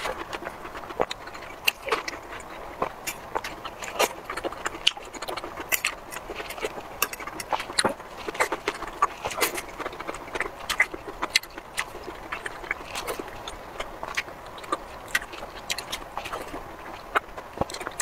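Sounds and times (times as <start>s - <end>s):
chewing juicy fruit: 0.0s - 18.0s.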